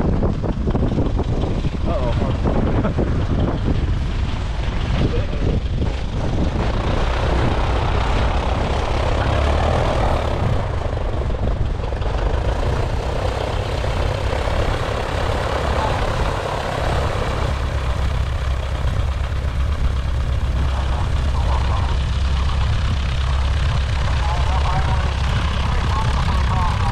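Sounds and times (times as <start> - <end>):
light plane engine droning: 0.0 - 26.9.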